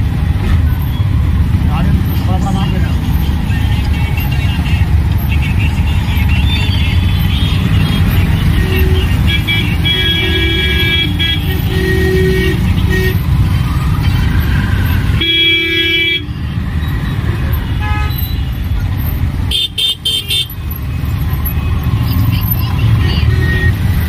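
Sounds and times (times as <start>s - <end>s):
rickshaw engine and road noise: 0.0s - 24.0s
vehicle horns tooting: 4.1s - 24.0s.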